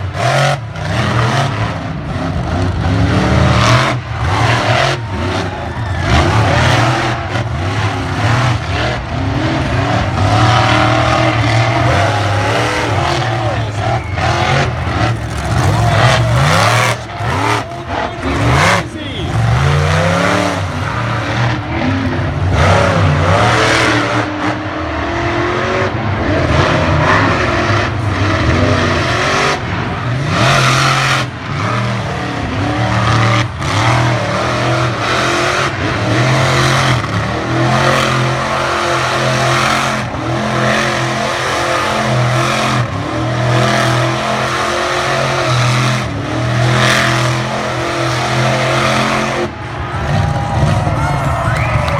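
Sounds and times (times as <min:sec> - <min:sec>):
monster truck engines revving: 0:00.0 - 0:51.9.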